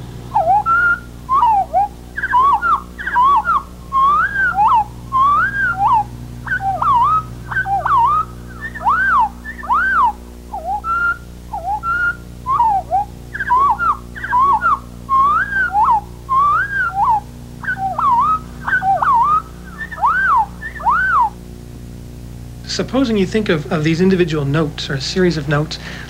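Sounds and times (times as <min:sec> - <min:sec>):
slowed birdsong whistled notes: 0:00.0 - 0:21.8
low playback hum: 0:00.0 - 0:26.0.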